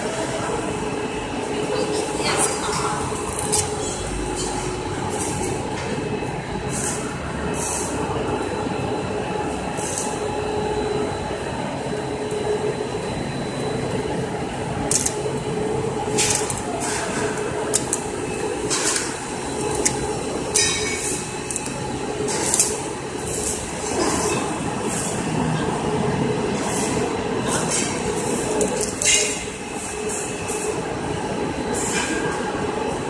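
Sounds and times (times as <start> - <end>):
winding machine hum: 0.0 - 33.0.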